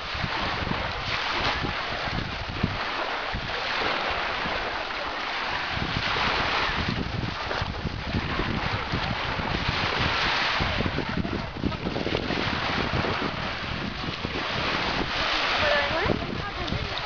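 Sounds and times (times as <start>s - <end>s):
rushing wind and surf: 0.0s - 17.0s
wind buffeting microphone: 0.0s - 17.0s.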